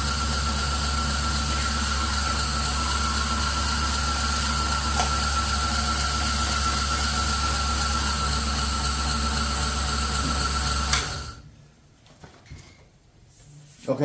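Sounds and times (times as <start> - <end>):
belt sander running: 0.0 - 11.4.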